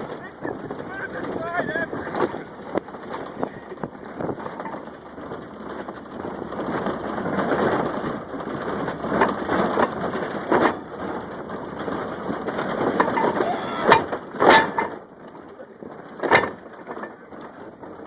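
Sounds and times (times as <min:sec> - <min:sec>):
knocks and bumps: 0:00.0 - 0:18.0.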